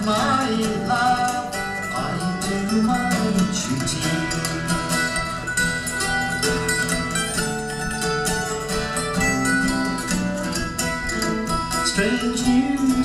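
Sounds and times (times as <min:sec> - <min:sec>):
plucked strings and guitar playing: 0:00.0 - 0:13.0.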